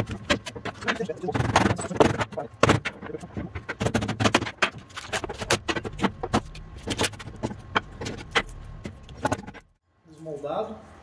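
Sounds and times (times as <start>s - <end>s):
wood clatter: 0.0s - 9.8s.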